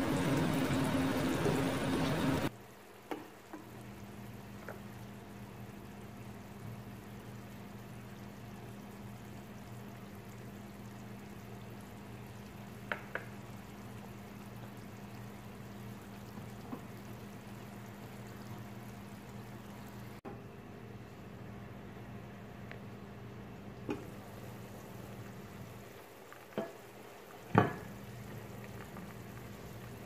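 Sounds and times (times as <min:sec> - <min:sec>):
oil sizzling in a frying pan: 0:00.0 - 0:20.2, 0:23.9 - 0:30.0.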